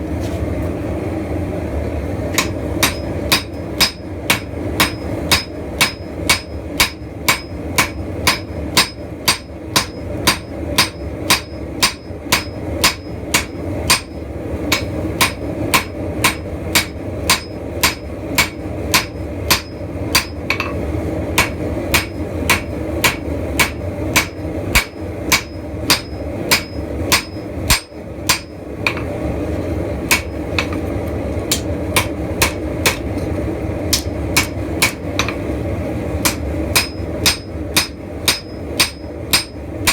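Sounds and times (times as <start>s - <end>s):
hammer striking steel on anvil: 2.4s - 20.8s, 21.4s - 29.2s, 30.1s - 30.9s, 31.5s - 33.2s, 33.9s - 35.4s, 36.2s - 39.9s.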